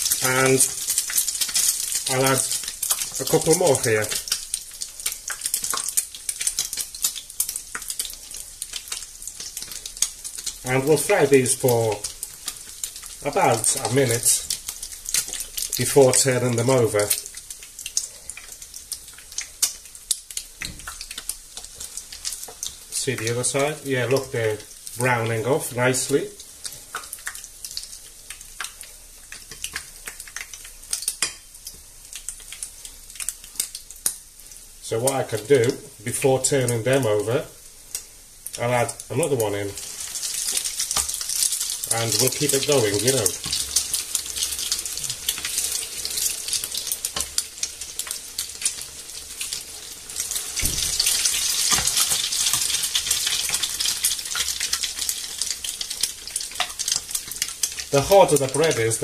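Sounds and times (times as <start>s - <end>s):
hot oil sizzling and crackling: 0.0s - 59.0s.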